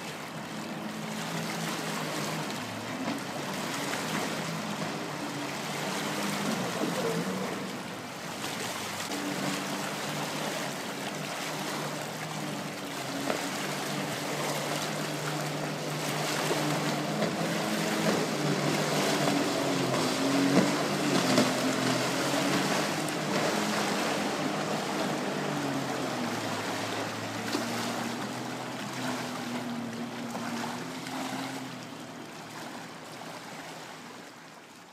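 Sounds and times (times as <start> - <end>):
jet ski engine passing: 0.0 - 34.6
rush of water and wind: 0.0 - 34.9.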